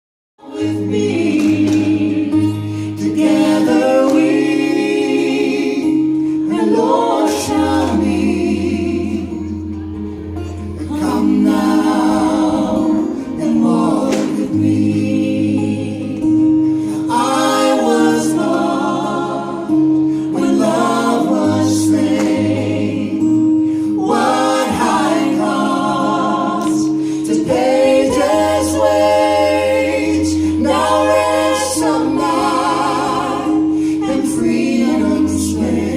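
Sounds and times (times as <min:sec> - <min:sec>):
guitar accompaniment: 0:00.4 - 0:35.9
voices singing in harmony: 0:00.4 - 0:35.9.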